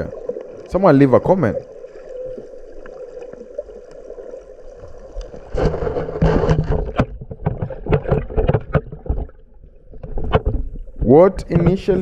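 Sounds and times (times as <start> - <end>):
sea water splashing: 0.0 - 12.0.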